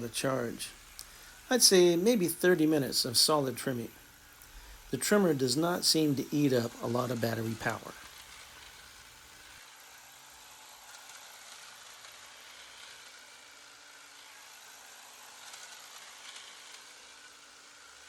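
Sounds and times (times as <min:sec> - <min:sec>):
hedge trimmer whirring: 0:00.0 - 0:18.0
steady hiss: 0:00.0 - 0:18.0.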